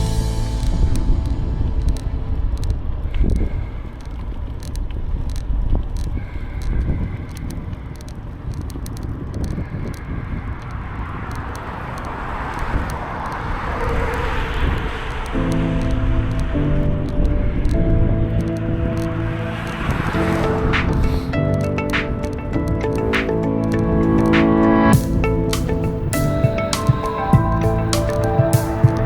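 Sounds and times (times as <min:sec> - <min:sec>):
wind and tyres rumbling: 0:00.0 - 0:29.0.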